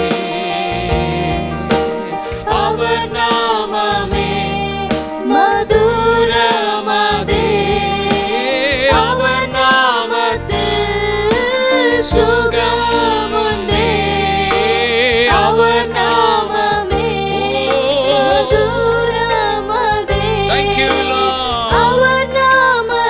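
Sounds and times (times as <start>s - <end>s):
instrumental accompaniment with beat: 0.0s - 22.1s
voices singing worship song: 0.0s - 23.0s.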